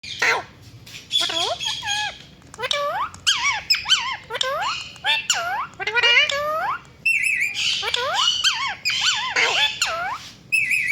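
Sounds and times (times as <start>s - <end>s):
parrot squeaky calls: 0.0s - 0.5s, 1.1s - 10.9s.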